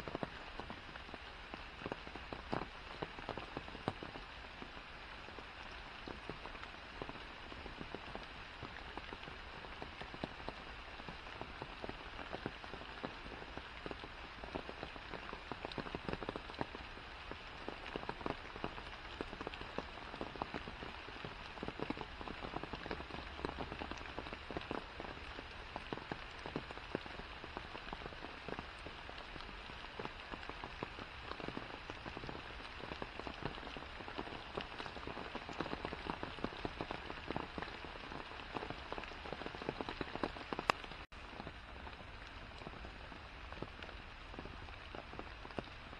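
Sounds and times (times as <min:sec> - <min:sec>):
close raindrops tapping: 0:00.0 - 0:45.9
rain falling on foliage: 0:00.0 - 0:45.9.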